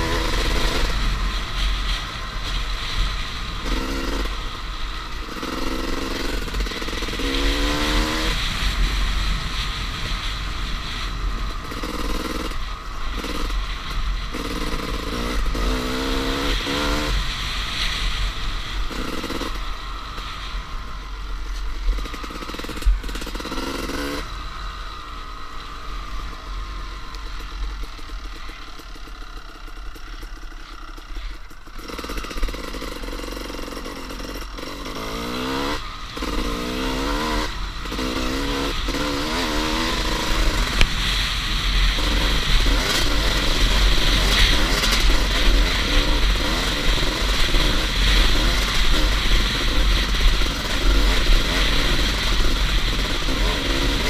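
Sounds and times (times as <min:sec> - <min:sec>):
two-stroke dirt bike engine revving: 0:00.0 - 0:54.0.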